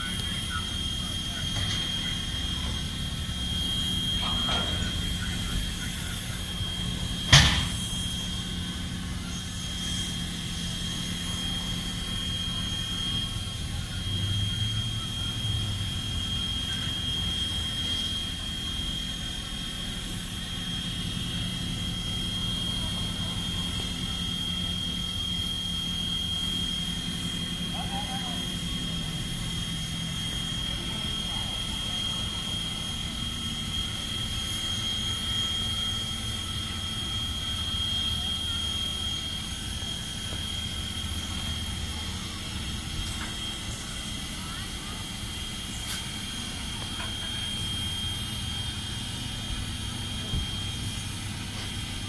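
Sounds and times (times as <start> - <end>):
high steady whine: 0.0 - 52.0
steam locomotive hum and hiss: 0.0 - 52.0.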